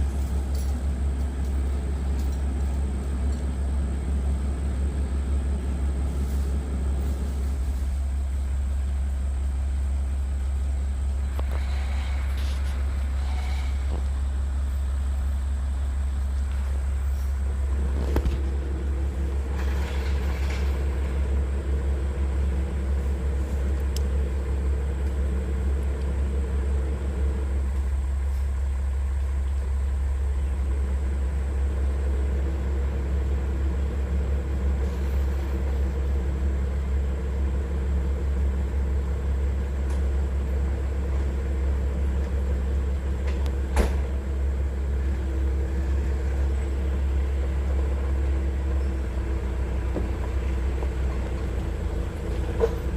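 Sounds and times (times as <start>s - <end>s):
large engine running: 0.0s - 52.9s.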